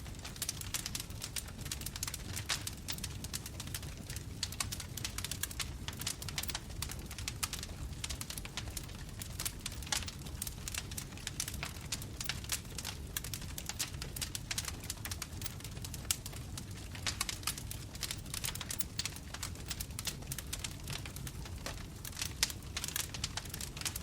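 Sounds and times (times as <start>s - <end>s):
low rumble of flames: 0.0s - 24.0s
wood crackling and popping: 0.0s - 24.0s.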